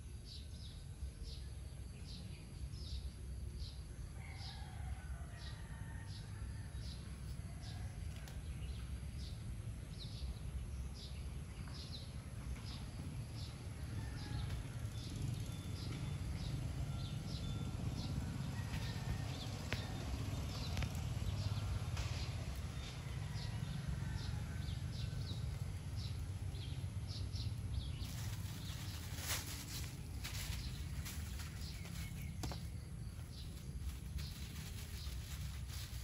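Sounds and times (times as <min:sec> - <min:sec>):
low outdoor rumble: 0:06.0 - 0:36.0.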